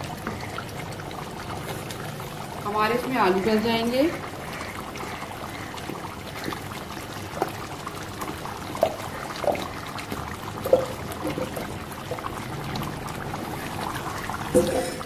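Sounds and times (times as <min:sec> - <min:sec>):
curry bubbling in a pot: 0:00.0 - 0:15.0.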